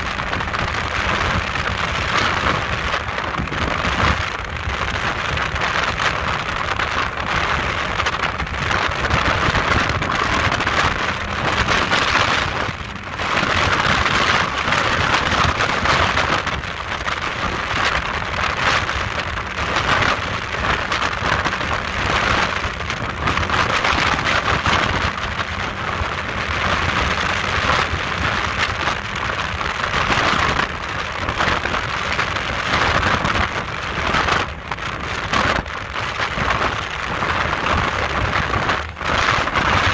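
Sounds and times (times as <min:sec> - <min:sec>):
rush of wind and water: 0:00.0 - 0:39.9
speedboat engine: 0:00.0 - 0:39.9.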